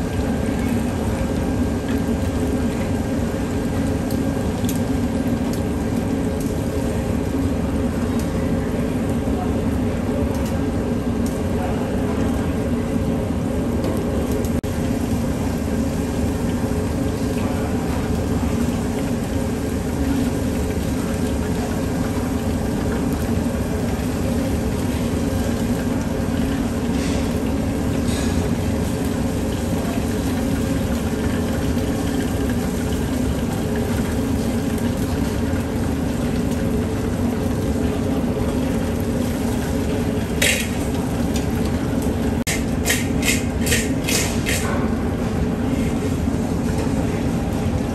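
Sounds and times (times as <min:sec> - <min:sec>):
kitchen hum and rushing noise: 0:00.0 - 0:47.9.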